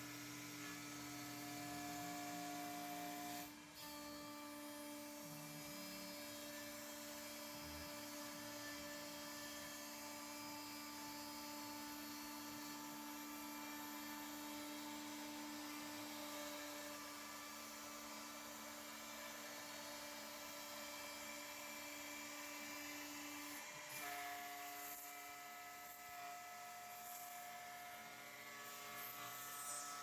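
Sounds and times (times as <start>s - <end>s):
cnc router spindle humming: 0.0s - 30.0s.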